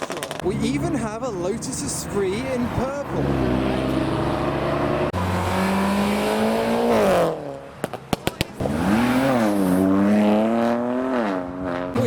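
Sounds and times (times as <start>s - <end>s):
car engine revving: 2.0s - 12.0s.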